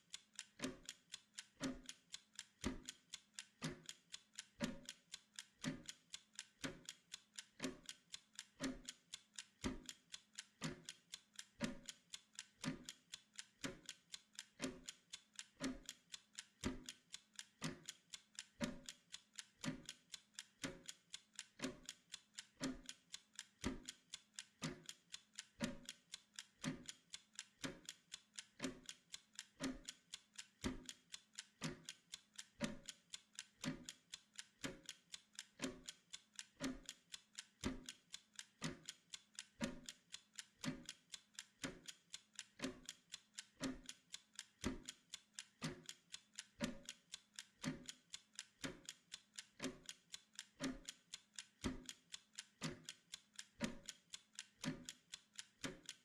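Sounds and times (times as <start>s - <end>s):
mechanical timer ticking: 0.0s - 56.0s.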